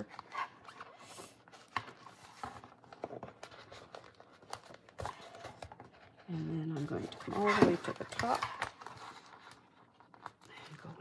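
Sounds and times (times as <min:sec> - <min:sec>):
paper and card rustling: 0:00.0 - 0:11.0.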